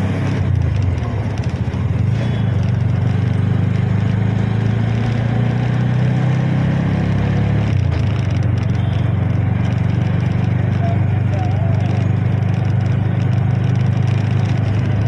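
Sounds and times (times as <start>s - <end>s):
rickshaw engine droning: 0.0s - 15.0s.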